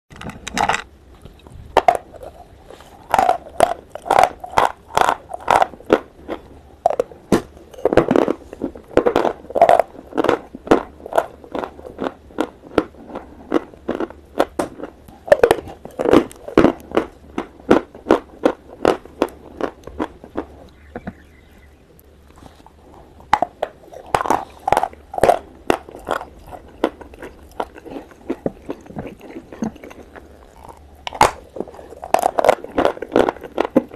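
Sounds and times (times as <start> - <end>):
quiet chewing: 1.1 - 33.9.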